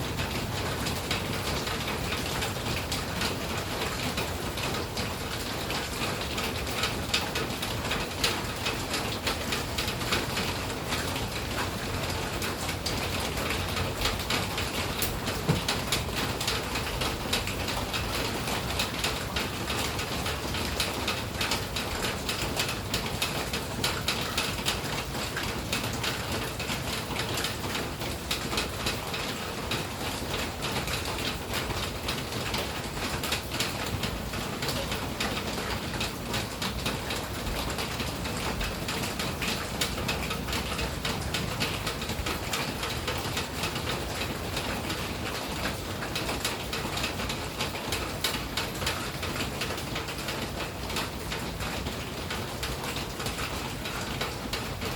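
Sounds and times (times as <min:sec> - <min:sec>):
rain drops ticking on hard surfaces: 0:00.0 - 0:54.9.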